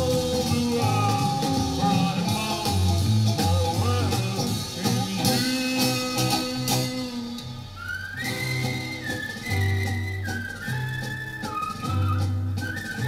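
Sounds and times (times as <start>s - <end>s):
pop-rock record playing: 0.0s - 13.0s.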